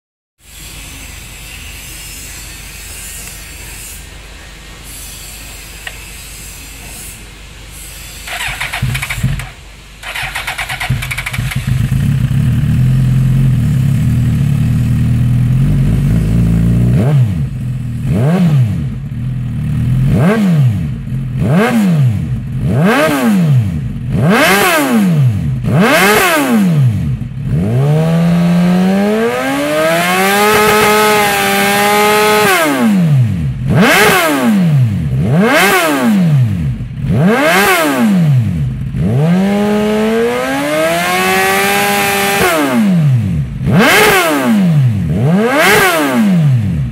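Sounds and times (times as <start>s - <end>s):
motorcycle engine idling and revving: 0.4s - 46.9s.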